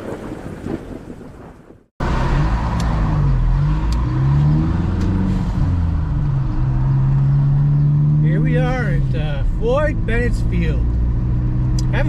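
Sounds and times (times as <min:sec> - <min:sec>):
car engine running: 0:02.0 - 0:12.0
road noise: 0:02.0 - 0:12.0.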